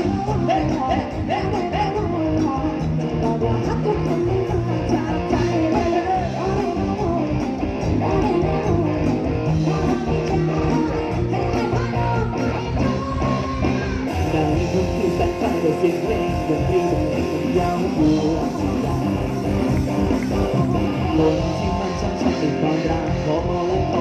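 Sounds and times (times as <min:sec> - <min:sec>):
live band playing: 0:00.0 - 0:24.0
melodic guitar lead: 0:00.0 - 0:24.0
steady drums: 0:00.0 - 0:24.0
stepping bass line: 0:00.0 - 0:24.0.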